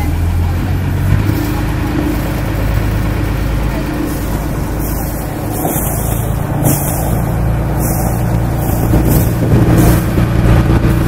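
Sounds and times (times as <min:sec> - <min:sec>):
boat engine running: 0:00.0 - 0:11.0
water and wind rushing: 0:00.0 - 0:11.0.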